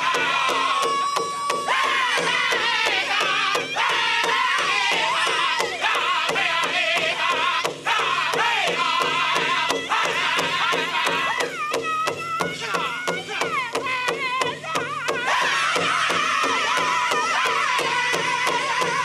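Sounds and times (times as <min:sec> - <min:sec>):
big drum beating fast: 0:00.0 - 0:19.0
group singing in wavering voices: 0:00.0 - 0:19.0.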